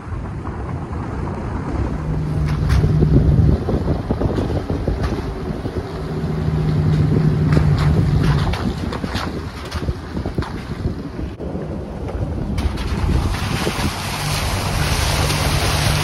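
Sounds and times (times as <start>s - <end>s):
car road rumble: 0.0s - 16.0s
wind rushing on microphone: 0.0s - 16.0s.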